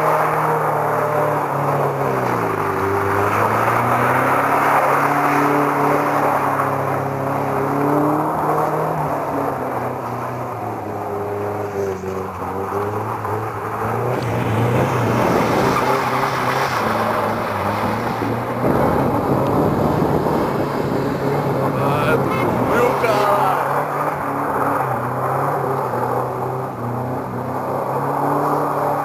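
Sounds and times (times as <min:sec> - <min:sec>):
tyres skidding on dirt: 0:00.0 - 0:29.0
car engine revving: 0:00.6 - 0:29.0.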